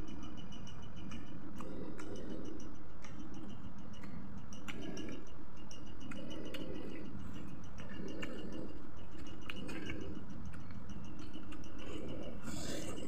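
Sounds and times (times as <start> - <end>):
fast high ticking: 0.0 - 13.0.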